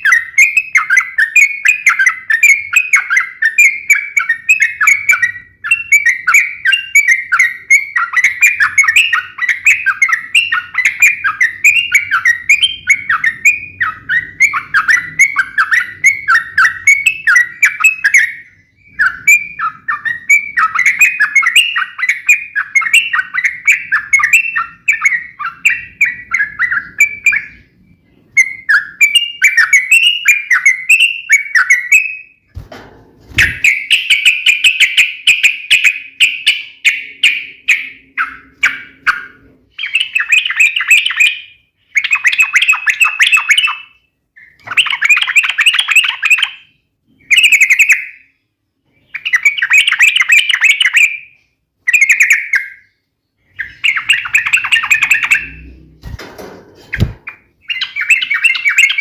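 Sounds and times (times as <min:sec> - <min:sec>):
bird chattering song: 0:00.0 - 0:32.5, 0:33.3 - 0:56.2, 0:56.8 - 0:59.0.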